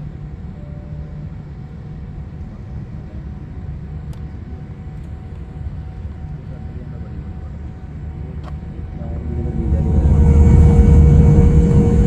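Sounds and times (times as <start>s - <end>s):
faint whining tones: 0.0s - 12.0s
jet engines rumbling: 0.0s - 12.0s.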